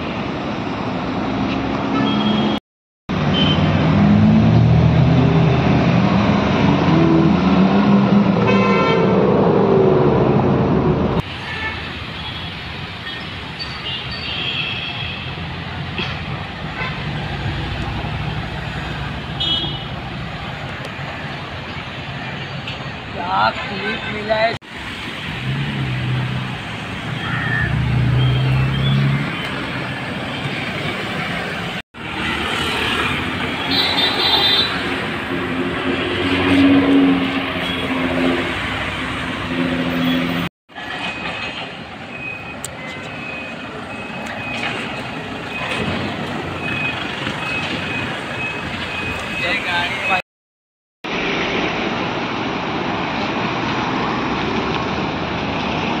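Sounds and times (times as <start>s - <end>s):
road traffic: 0.0s - 50.2s, 51.0s - 56.0s.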